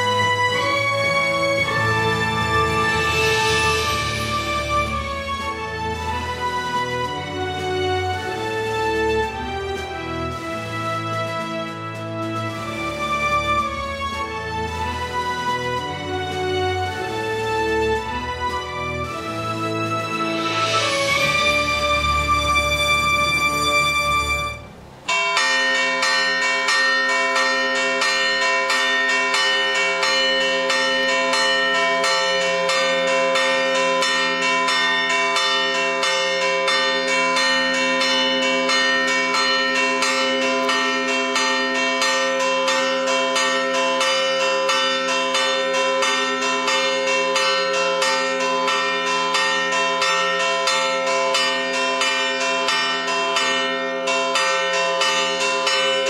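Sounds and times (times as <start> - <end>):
church bells ringing rapidly: 0.0 - 24.3, 25.0 - 56.0.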